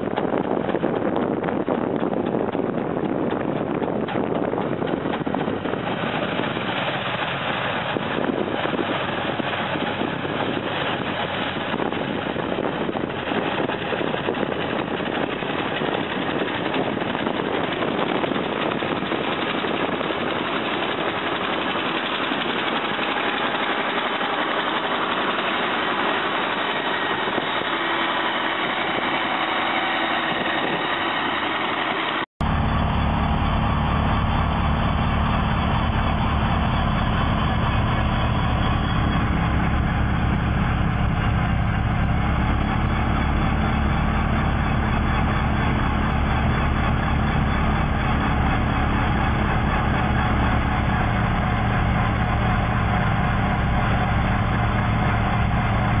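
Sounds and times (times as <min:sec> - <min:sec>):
snow blowers running: 0:00.0 - 0:56.0.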